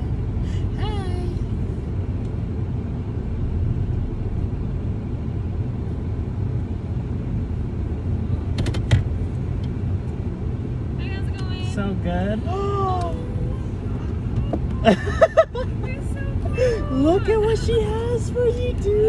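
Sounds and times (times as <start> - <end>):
car rumble from inside cabin: 0.0 - 19.0.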